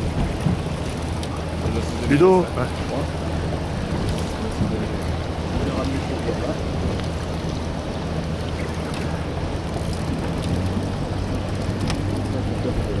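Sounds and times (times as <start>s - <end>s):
boat motor humming: 0.0s - 13.0s
wind and water noise: 0.0s - 13.0s.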